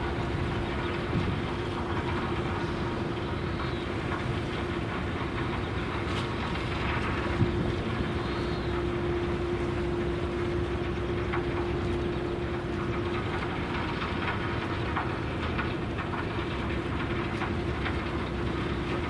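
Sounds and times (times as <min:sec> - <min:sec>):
constant hum: 0:00.0 - 0:19.0
low outdoor rumble: 0:00.0 - 0:19.0.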